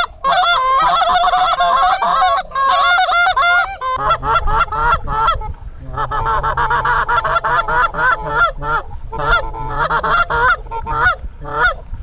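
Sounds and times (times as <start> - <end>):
goose honking and clucking: 0.0 - 11.8.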